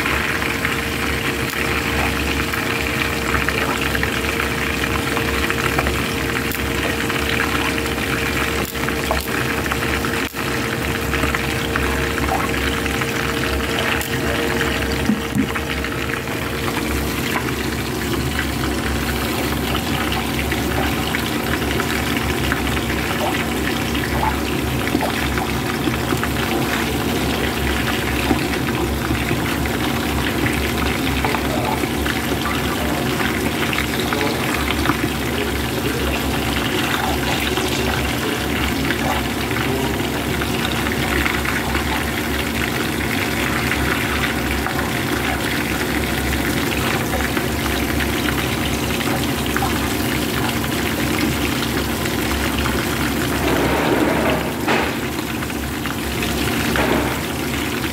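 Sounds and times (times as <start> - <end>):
fish frying in oil: 0.0 - 57.9.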